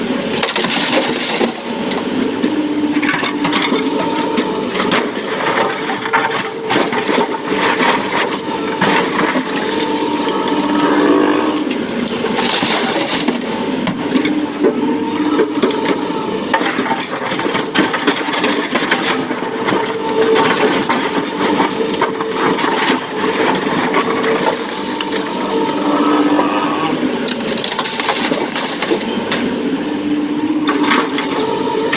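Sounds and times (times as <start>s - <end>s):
excavator engine and hydraulics: 0.0s - 31.9s.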